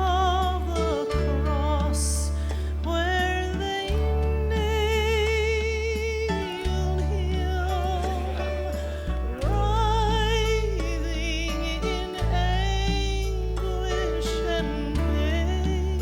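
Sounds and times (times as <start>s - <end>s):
gospel hymn music: 0.0s - 16.0s.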